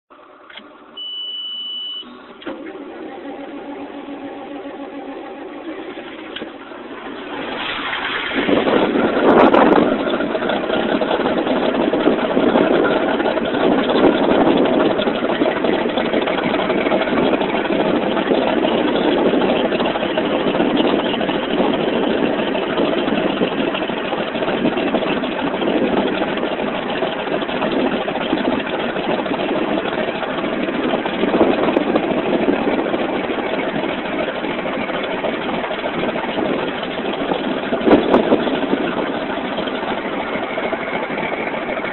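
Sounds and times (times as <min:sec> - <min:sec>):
diesel tractor engine starting and idling: 0:00.1 - 0:41.9.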